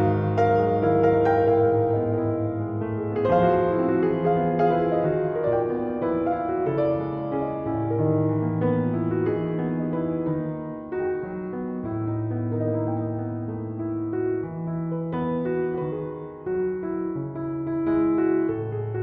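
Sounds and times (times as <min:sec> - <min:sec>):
gentle piano piece: 0:00.0 - 0:19.0.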